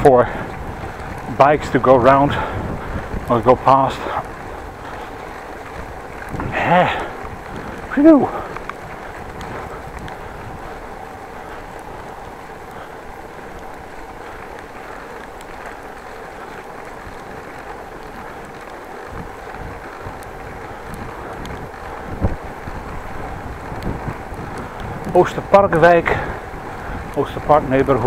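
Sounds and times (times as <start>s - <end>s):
bicycle tyre and wind noise: 0.0s - 28.0s.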